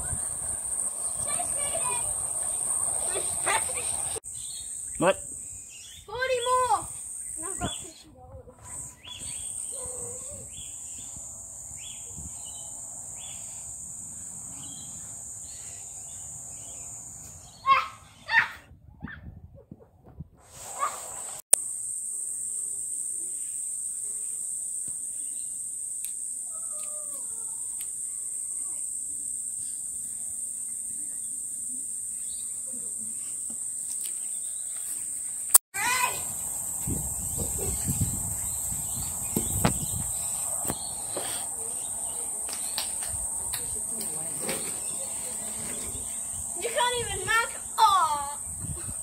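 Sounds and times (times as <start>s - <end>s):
insects droning: 0.0s - 17.8s, 20.7s - 49.0s.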